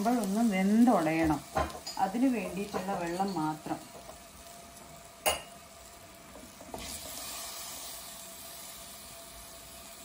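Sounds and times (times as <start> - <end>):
hissing sizzle in hot pot: 0.0 - 10.0.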